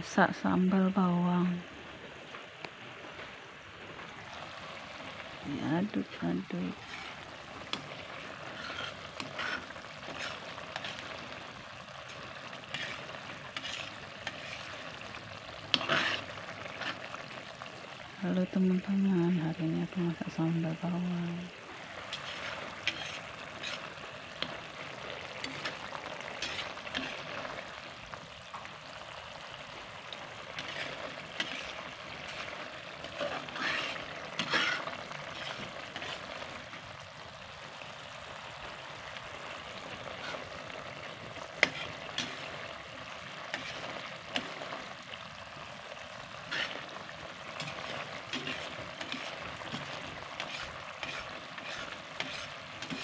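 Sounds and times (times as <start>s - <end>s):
paste sizzling in a frying pan: 0.0s - 53.0s.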